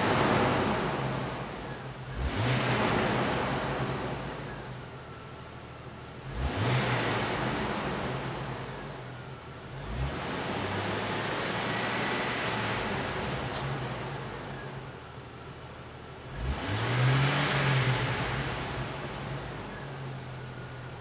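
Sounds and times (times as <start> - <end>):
engine revving: 0.0 - 4.9, 6.1 - 14.9, 16.1 - 20.7
car engine idling: 0.0 - 21.0.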